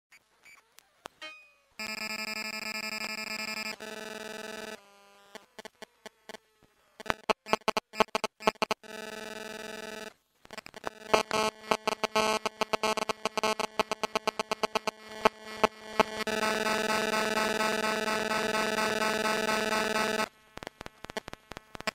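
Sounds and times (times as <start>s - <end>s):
continuous tone: 0.1s - 6.4s, 7.0s - 21.9s
electronic buzz tones: 1.8s - 21.9s.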